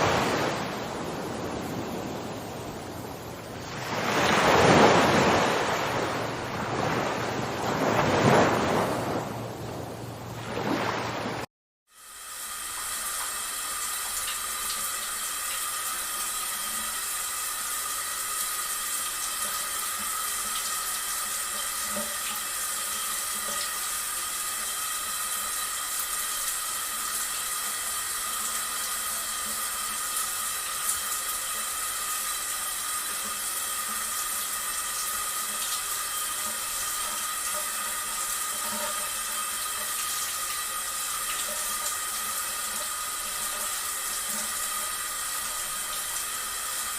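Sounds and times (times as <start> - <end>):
water running and splashing: 0.0 - 9.2, 12.1 - 46.9.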